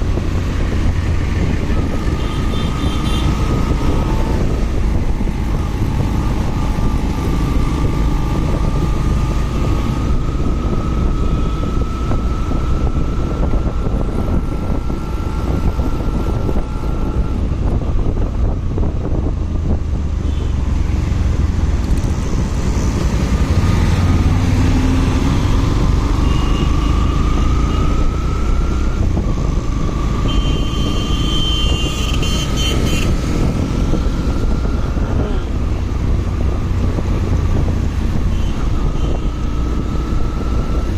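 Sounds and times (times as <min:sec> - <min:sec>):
motorcycle engine riding: 0:00.0 - 0:40.9
rising engine whine: 0:00.0 - 0:40.9.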